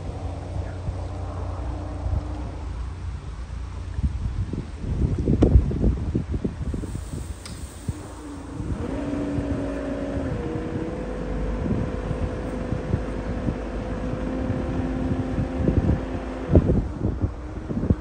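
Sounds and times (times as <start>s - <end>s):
engine drone: 0.0s - 4.8s, 6.7s - 18.0s
wind buffeting microphone: 0.0s - 18.0s.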